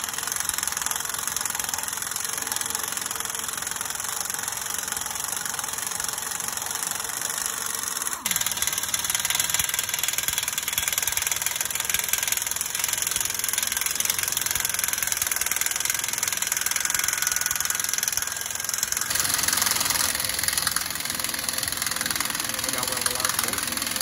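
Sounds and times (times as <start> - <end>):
impact wrench hammering: 0.0 - 24.0.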